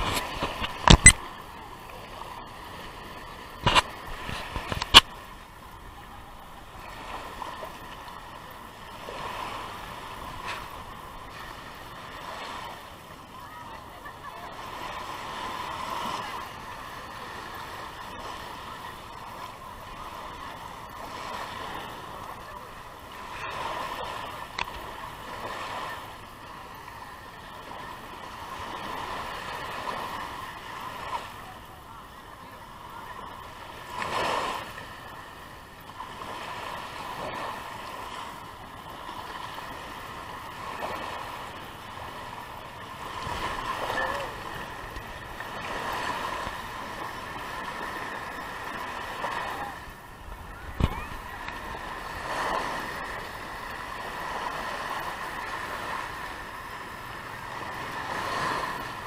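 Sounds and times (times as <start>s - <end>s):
small waves washing on beach: 0.0s - 59.0s.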